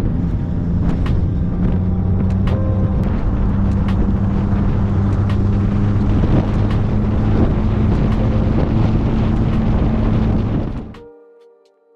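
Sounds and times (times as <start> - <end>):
truck engine through loud muffler: 0.0 - 11.0
wind noise on microphone: 0.0 - 11.1.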